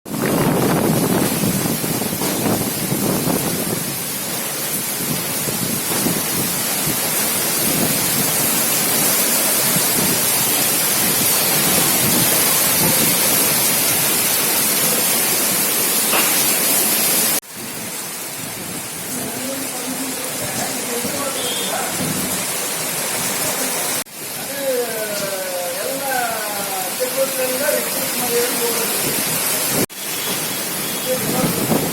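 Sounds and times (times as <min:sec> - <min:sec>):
heavy rain pouring: 0:00.1 - 0:31.9.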